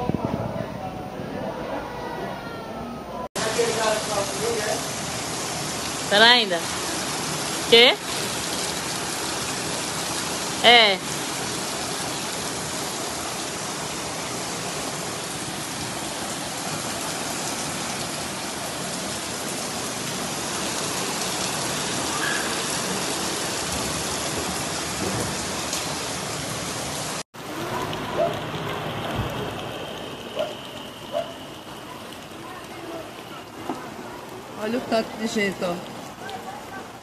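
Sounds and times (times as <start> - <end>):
heavy rain: 0.0 - 2.3, 3.3 - 37.0.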